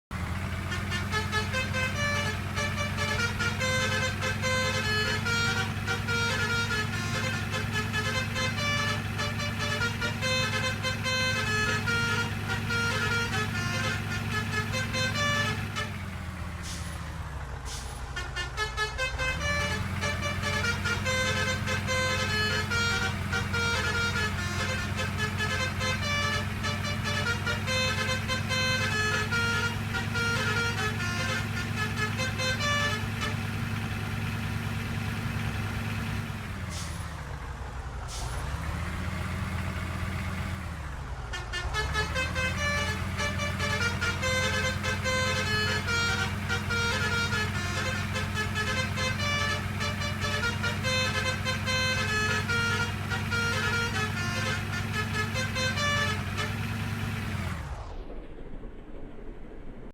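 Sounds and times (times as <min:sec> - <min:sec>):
bus engine running: 0:00.0 - 0:58.1
multi-tone musical air horn: 0:00.7 - 0:16.9, 0:17.7 - 0:34.8, 0:41.3 - 0:57.9.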